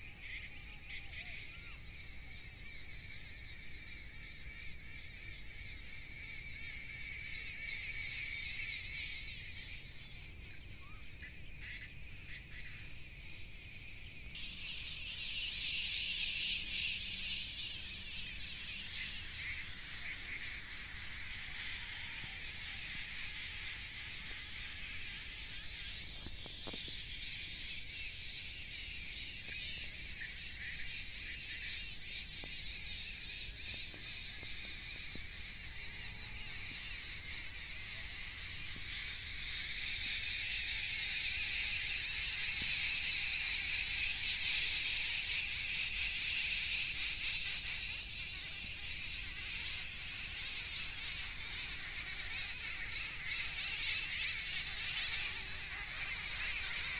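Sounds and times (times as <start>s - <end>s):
insects chorus high shrill: 0.0s - 56.9s.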